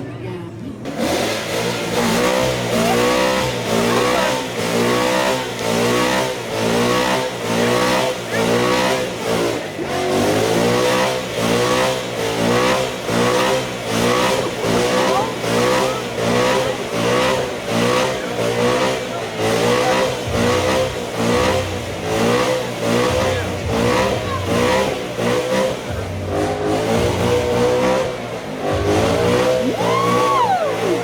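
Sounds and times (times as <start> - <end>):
car engine revving: 0.8 - 31.0.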